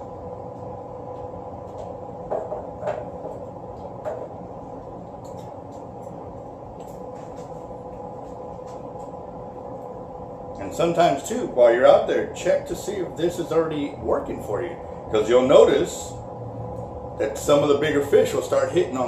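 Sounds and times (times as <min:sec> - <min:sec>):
air conditioner hum: 0:00.0 - 0:19.0.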